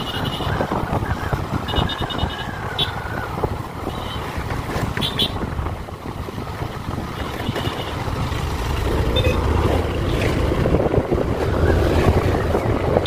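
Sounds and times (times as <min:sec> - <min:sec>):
steady rushing rumble: 0:00.0 - 0:13.0
wind buffeting microphone: 0:00.0 - 0:13.0.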